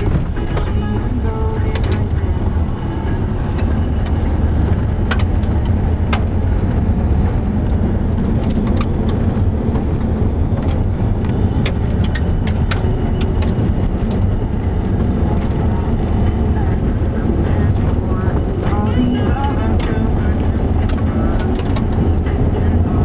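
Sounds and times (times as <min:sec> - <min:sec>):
low rumble of engine and tyres: 0:00.0 - 0:23.0
gravel clicks and rattles: 0:03.1 - 0:22.4.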